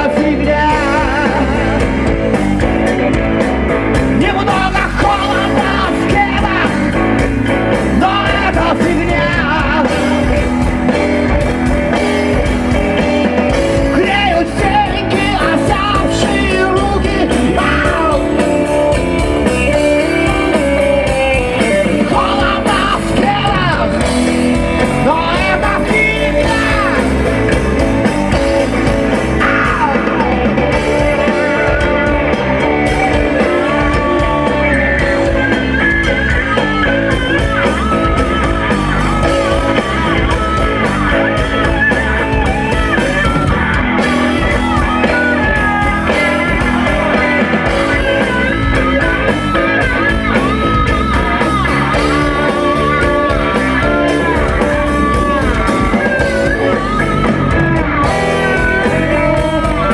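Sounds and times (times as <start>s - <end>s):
guitar bending melody: 0.0s - 59.9s
rock band playing live: 0.0s - 59.9s.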